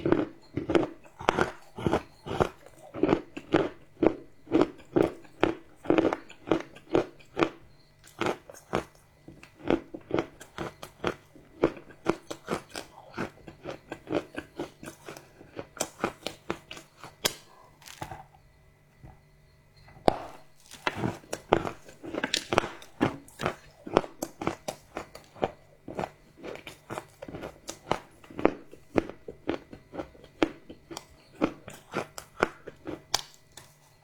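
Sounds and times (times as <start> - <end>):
chocolate being chewed crunching: 0.0 - 34.0.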